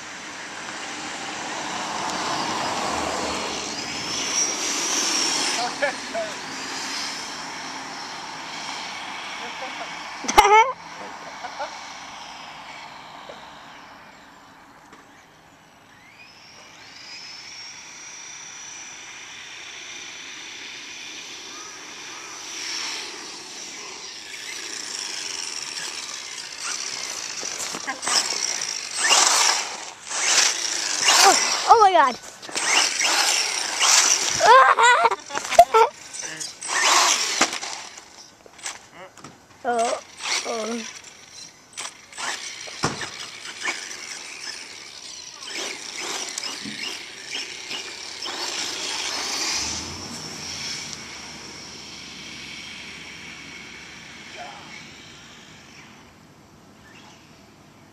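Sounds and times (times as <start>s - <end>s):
rasping bursts: 0.0s - 14.0s, 16.0s - 39.0s, 39.6s - 56.2s
toy truck motor hiss and whine: 0.0s - 38.9s, 39.6s - 57.4s.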